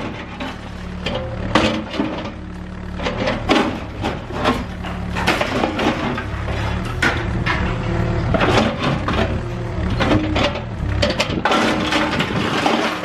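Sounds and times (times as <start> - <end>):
concrete cracking and crunching: 0.0 - 13.0
excavator diesel engine running: 0.0 - 13.0.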